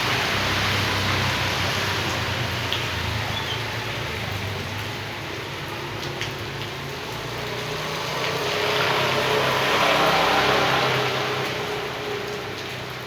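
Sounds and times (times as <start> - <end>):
flowing rainwater runoff: 0.0 - 13.0.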